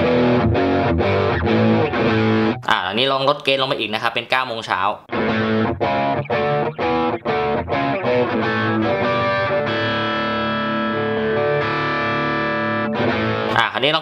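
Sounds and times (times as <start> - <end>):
distorted electric guitar chords: 0.0 - 2.7, 5.1 - 14.0.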